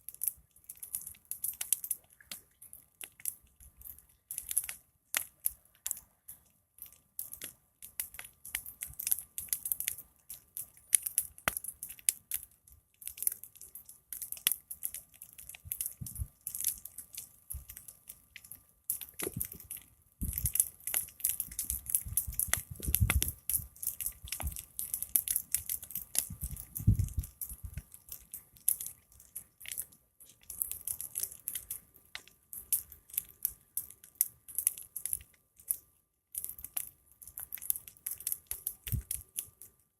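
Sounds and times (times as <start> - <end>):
wood fire crackling: 0.0 - 39.8.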